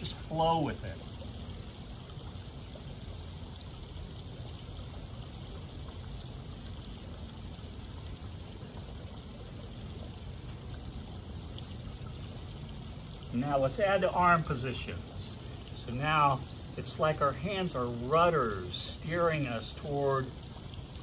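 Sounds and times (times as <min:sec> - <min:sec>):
fountain splashing into pool: 0:00.0 - 0:21.0.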